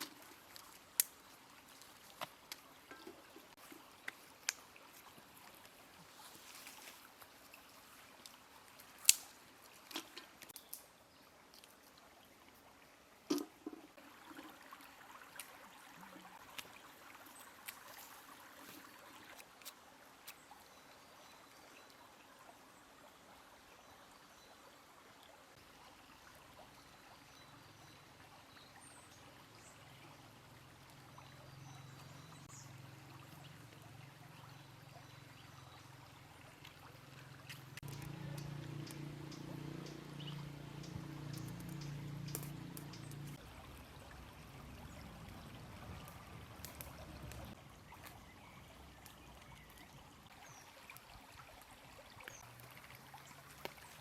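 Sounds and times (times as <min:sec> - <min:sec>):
faint trickling water: 0:00.0 - 0:54.0.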